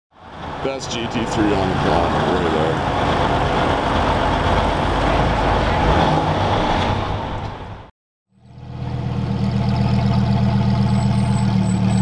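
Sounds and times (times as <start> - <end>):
road traffic rumble: 0.1 - 12.0.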